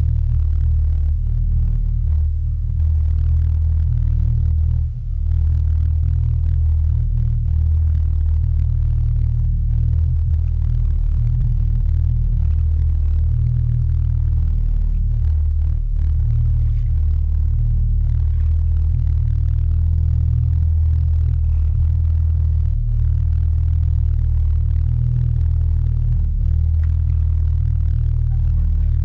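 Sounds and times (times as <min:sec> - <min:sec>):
low underwater rumble and drone: 0:00.0 - 0:29.0.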